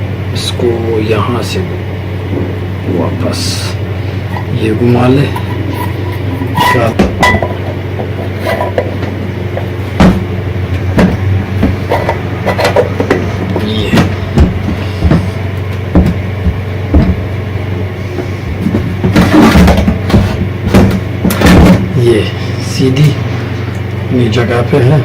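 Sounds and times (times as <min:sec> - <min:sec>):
exhaust fan parts clicking: 0:00.0 - 0:25.0
steady low hum: 0:00.0 - 0:25.0.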